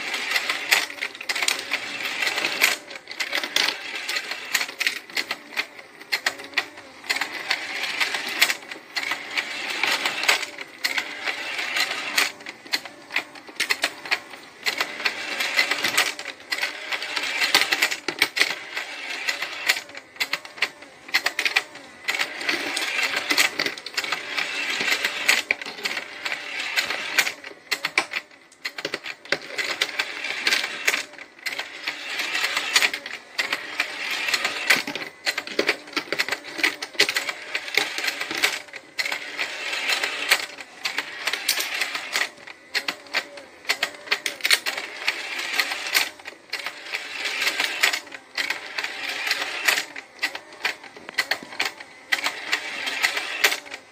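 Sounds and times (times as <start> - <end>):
toy motor and gears clattering: 0.0 - 53.9.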